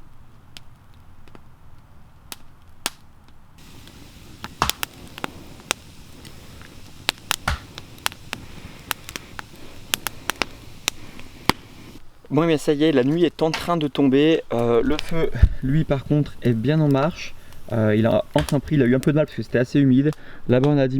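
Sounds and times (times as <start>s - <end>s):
campfire crackling: 0.0s - 20.7s.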